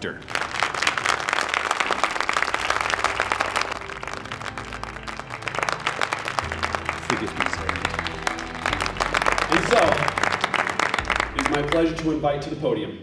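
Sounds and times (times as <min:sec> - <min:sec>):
crowd applauding: 0:00.0 - 0:12.5
low sustained music tones: 0:00.2 - 0:13.0.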